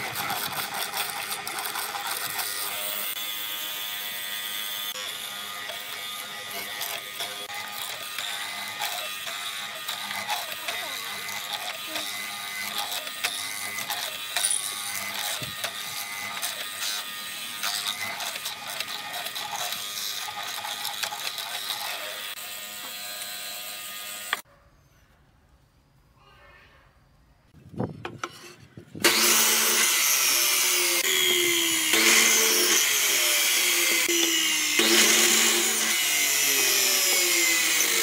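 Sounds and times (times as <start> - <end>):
woodworking tool clicking and rasping: 0.0 - 24.4, 28.0 - 38.0.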